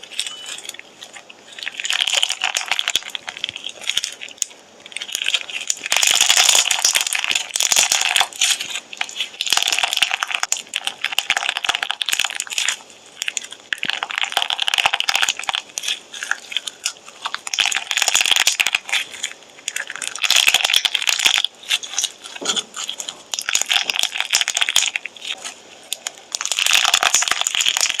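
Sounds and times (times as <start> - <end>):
slime squeezed by hand crackling: 0.0 - 28.0.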